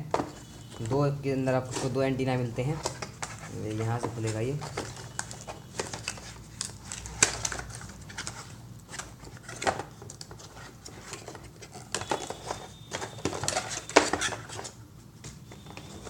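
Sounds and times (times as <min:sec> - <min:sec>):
packaging clicks and rustles: 0:00.0 - 0:16.0.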